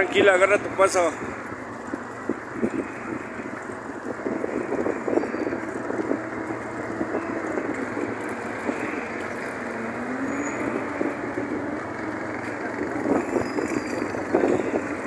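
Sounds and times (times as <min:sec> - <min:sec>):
street noise: 0:00.0 - 0:15.0
vehicle engine running: 0:00.0 - 0:15.0.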